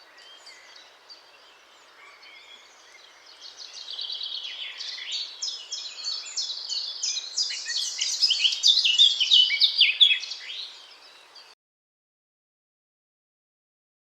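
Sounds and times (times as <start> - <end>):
bird warbling song: 0.0 - 11.6.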